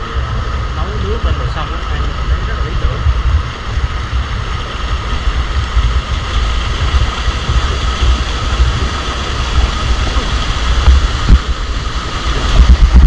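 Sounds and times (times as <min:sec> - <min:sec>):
stream water flowing: 0:00.0 - 0:13.0
wind buffeting microphone: 0:00.0 - 0:13.0.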